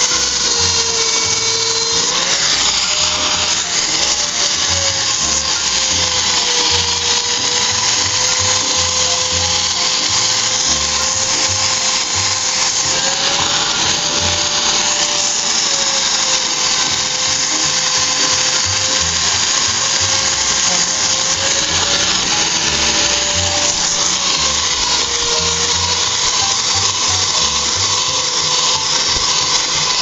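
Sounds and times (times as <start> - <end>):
electric polisher motor whining: 0.0 - 30.0.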